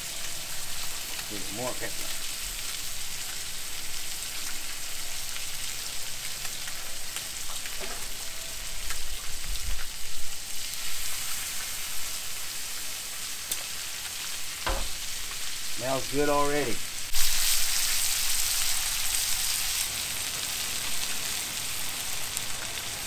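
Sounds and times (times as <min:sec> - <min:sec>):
fish sizzling in butter: 0:00.0 - 0:23.0.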